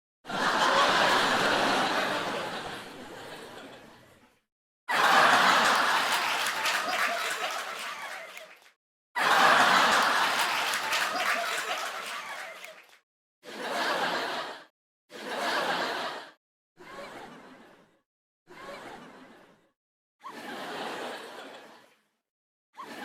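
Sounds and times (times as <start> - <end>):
people laughing: 0.3 - 4.3, 4.9 - 17.9, 18.5 - 19.6, 20.2 - 22.0, 22.8 - 23.0.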